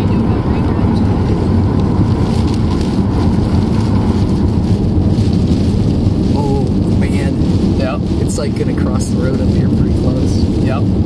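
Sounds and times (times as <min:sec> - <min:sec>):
rain hitting a car: 0:00.0 - 0:11.0
road and engine rumble: 0:00.0 - 0:11.0.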